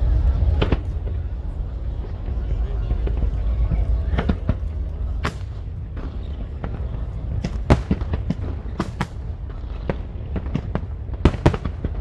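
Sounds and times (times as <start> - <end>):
fireworks cracking and banging: 0.0 - 12.0
low rumble: 0.0 - 12.0.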